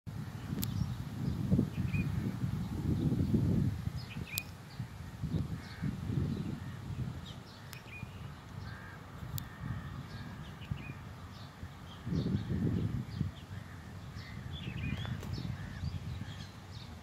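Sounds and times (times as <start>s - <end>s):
wind gusts on microphone: 0.1s - 17.0s
birds chirping: 0.2s - 17.0s.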